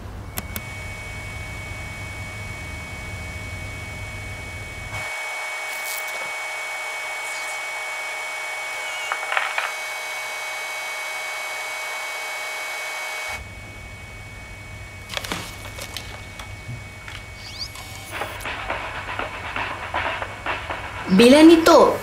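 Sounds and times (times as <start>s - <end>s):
low room hum: 0.0s - 22.0s
tape hiss with high whine: 0.0s - 22.0s.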